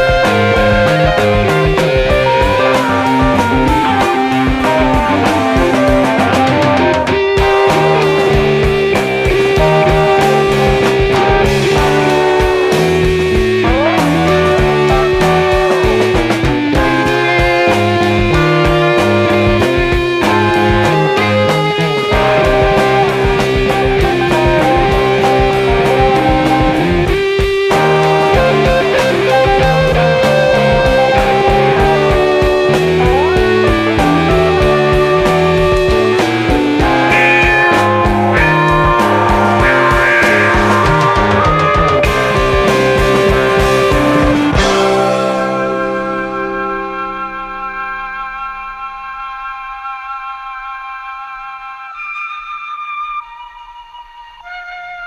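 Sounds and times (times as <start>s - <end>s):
steady drum beat: 0.0s - 47.2s
progressive rock electric guitar: 0.0s - 55.0s.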